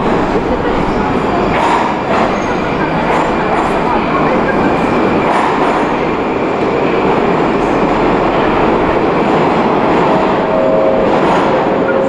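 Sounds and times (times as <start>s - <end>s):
train rail rumble: 0.0s - 12.0s.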